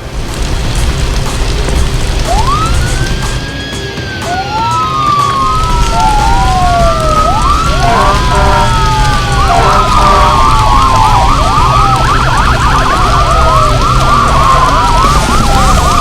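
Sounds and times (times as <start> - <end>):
steady low rumble: 0.0 - 3.6, 5.0 - 16.0
sirens wailing: 0.0 - 16.0
fast-sweeping siren: 2.2 - 16.0.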